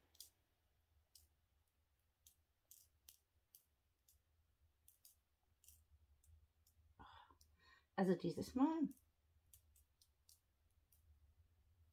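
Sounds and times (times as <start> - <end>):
faint light clicks of resin beads: 0.0 - 7.6, 8.8 - 11.2.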